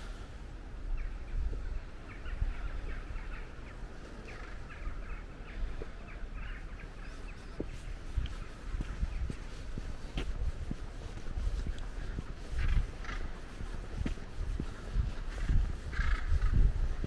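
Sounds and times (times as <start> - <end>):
low wind rumble: 0.0 - 17.0
birds chirping: 0.8 - 17.0.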